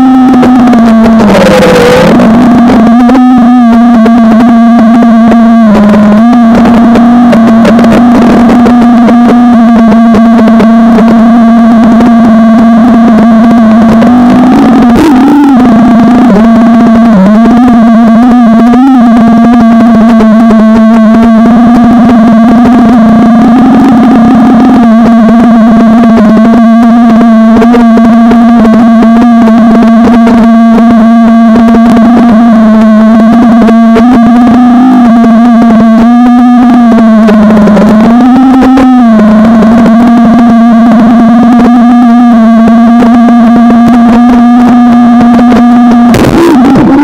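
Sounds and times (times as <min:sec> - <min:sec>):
drone motors whining: 0:00.0 - 0:47.0.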